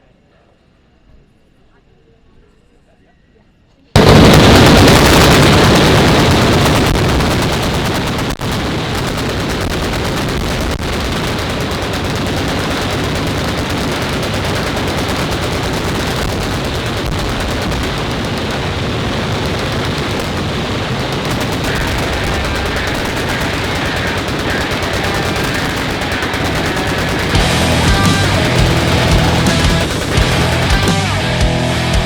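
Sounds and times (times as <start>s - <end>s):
automatic machine gun fire: 4.0s - 31.3s.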